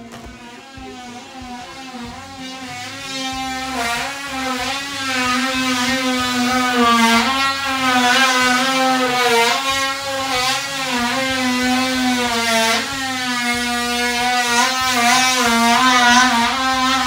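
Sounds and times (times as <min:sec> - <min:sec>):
motor whining: 0:00.0 - 0:17.0.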